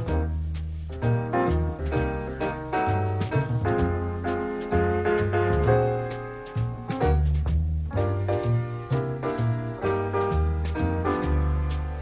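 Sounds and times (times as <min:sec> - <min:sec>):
light jazzy instrumental music: 0:00.0 - 0:12.0.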